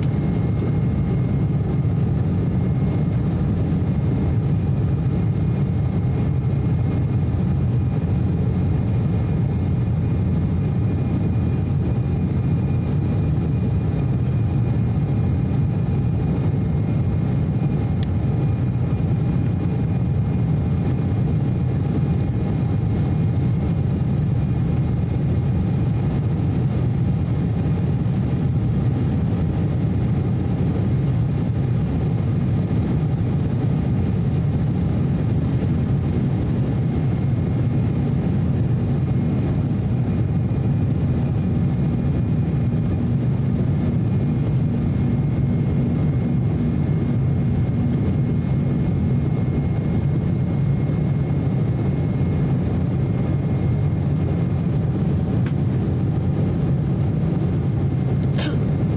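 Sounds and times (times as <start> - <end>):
aircraft engines low rumble: 0.0 - 58.9
engine whine tones: 0.0 - 58.9.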